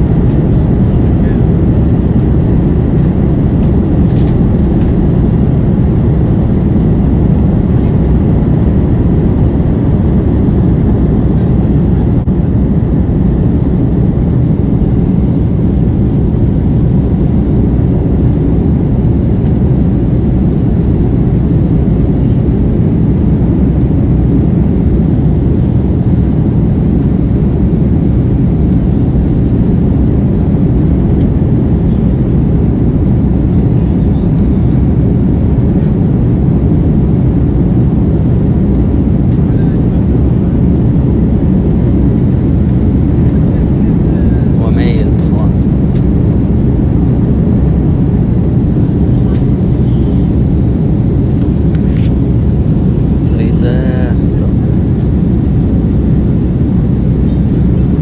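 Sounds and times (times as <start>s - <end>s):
jet engines rumbling: 0.0s - 58.0s
rushing air: 0.0s - 58.0s.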